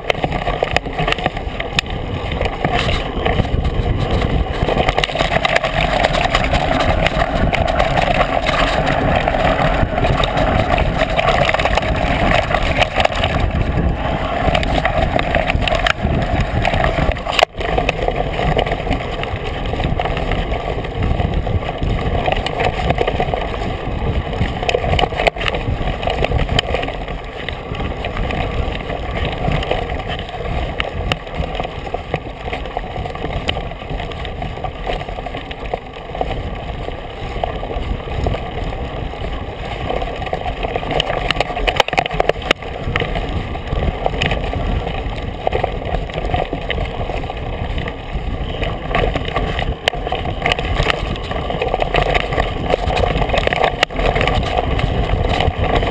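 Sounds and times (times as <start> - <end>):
bike knocks and rattles: 0.0 - 55.9
bike tyre rumble on dirt: 0.0 - 55.9.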